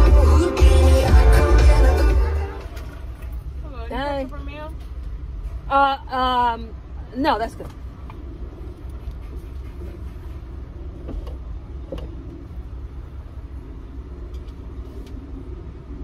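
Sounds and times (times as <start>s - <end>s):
car idling: 0.0s - 16.0s.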